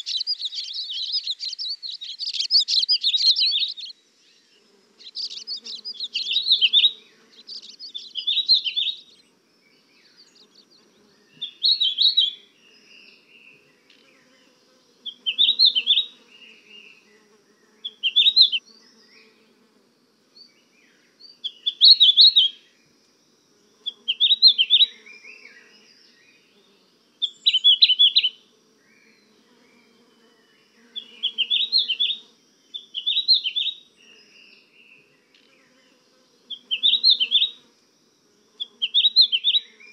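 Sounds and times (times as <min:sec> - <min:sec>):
songbird chirping: 0:00.0 - 0:37.7, 0:38.3 - 0:39.9.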